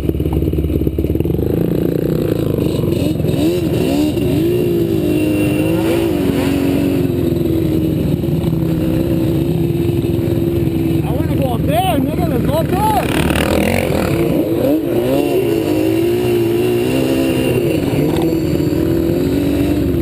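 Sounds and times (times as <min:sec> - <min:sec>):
atv engine revving: 0:00.0 - 0:20.0.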